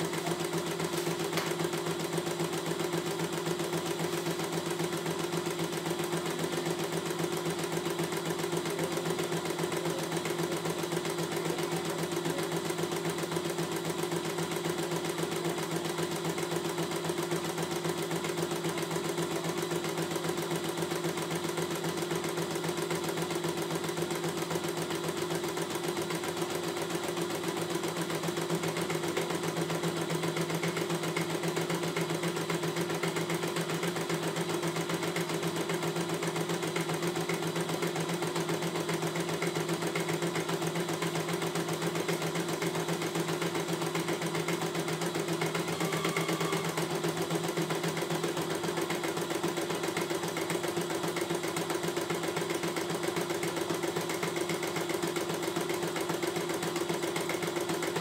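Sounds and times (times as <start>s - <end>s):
embroidery machine stitching: 0.0s - 58.0s.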